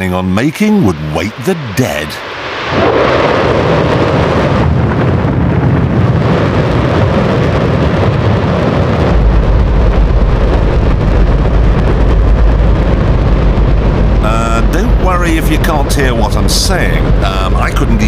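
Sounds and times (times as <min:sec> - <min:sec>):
deep rumble: 0:00.0 - 0:18.0
rocket engine roar: 0:00.0 - 0:18.0.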